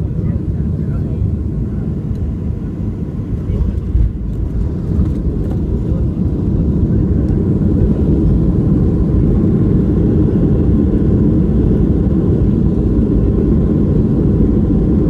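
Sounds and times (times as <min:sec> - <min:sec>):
deep rumble of engines and wheels: 0:00.0 - 0:15.0.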